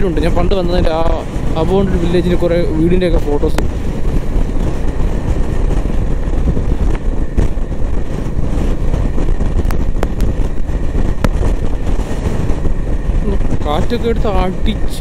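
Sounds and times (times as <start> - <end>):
motorcycle engine: 0.0 - 15.0
road noise: 0.0 - 15.0
wind on microphone: 0.0 - 15.0.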